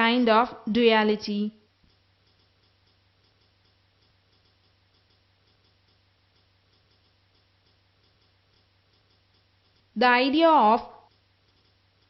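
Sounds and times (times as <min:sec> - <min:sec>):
low steady hum: 0:00.0 - 0:12.0
faint regular ticking: 0:01.6 - 0:12.0.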